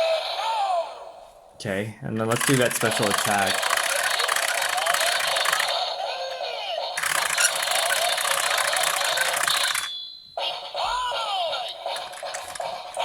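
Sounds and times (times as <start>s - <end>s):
toy electronic sound effects: 2.4s - 13.0s.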